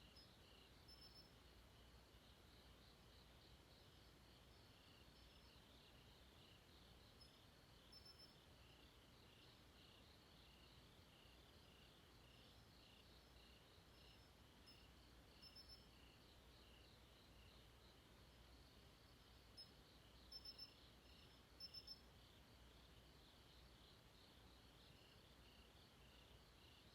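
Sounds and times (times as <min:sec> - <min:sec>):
crickets chirping: 0:00.0 - 0:26.9
higher insect chirps: 0:00.0 - 0:26.9.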